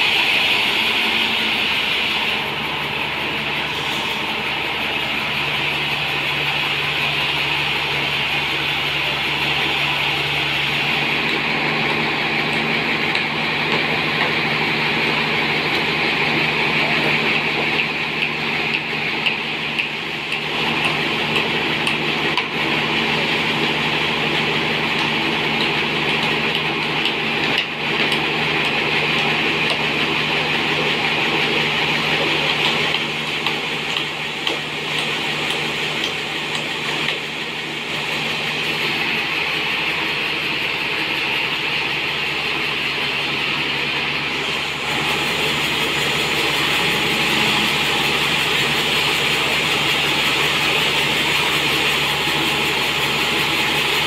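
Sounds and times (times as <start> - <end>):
band sawmill motor whine: 0.0 - 54.0.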